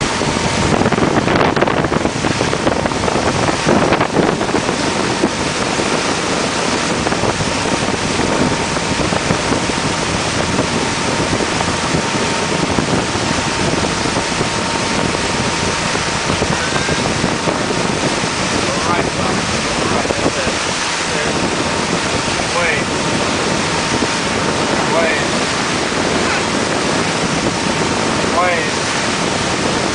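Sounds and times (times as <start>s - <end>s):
water noise: 0.0s - 29.9s
wind blowing across microphone: 0.0s - 29.9s.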